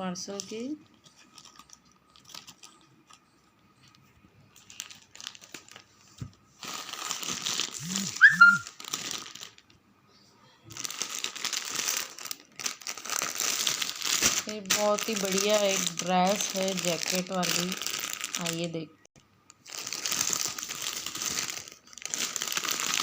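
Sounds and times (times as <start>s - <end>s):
packaging crinkling and tearing: 0.3s - 9.8s, 10.7s - 18.7s, 19.5s - 23.0s.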